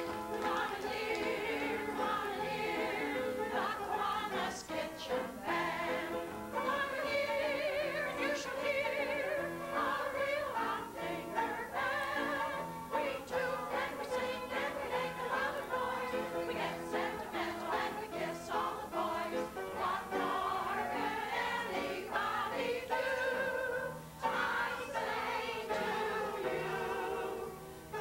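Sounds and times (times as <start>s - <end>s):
elderly women singing together: 0.0s - 28.0s.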